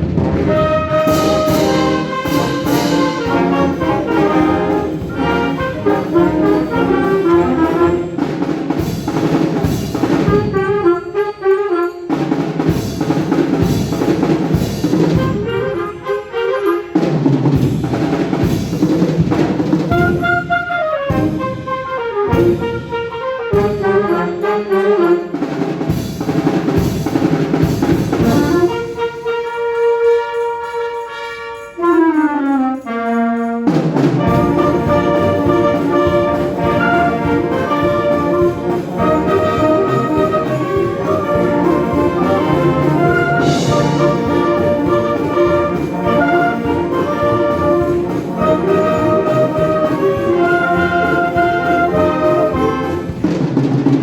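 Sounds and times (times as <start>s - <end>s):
drum strokes: 0.0s - 10.9s, 12.1s - 30.8s, 33.6s - 54.0s
concert wind band playing: 0.0s - 54.0s.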